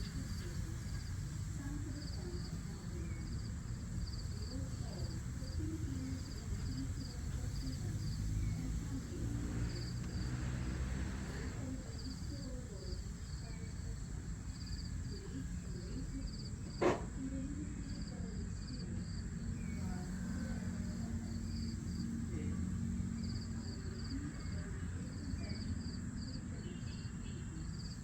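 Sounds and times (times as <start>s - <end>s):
crickets chirping: 0.0s - 28.0s
low outdoor rumble: 0.0s - 28.0s.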